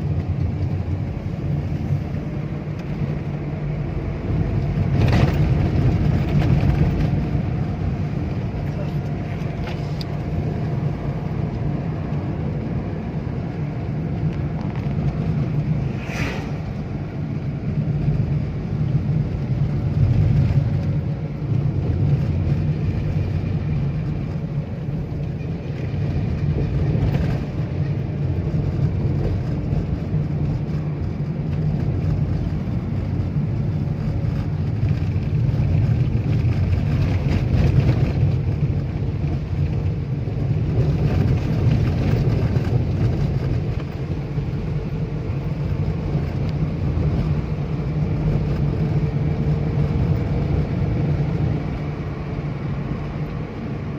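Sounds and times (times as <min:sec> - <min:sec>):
moving vehicle rumble: 0:00.0 - 0:53.9.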